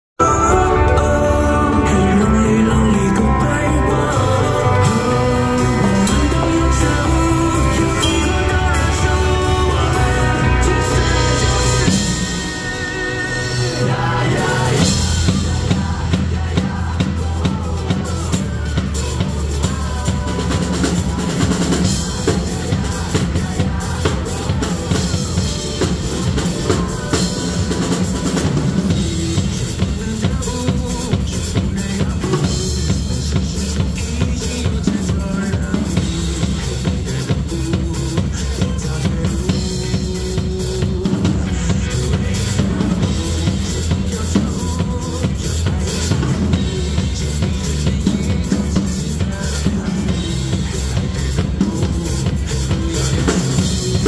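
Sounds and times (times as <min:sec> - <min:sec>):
acoustic drum kit playing rock: 0:00.2 - 0:54.0
pop-rock backing track: 0:00.2 - 0:54.0.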